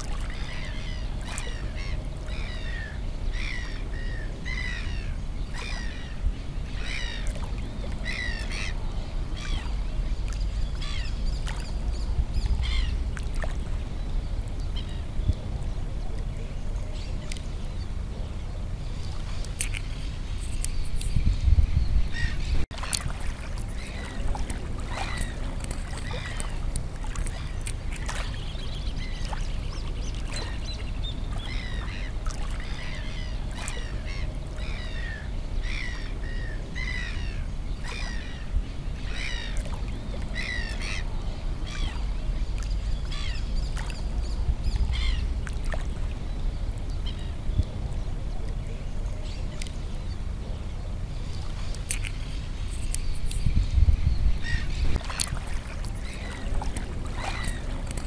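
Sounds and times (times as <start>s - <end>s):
birds chirping: 0.0s - 58.0s
low wind rumble on microphone: 0.0s - 58.0s.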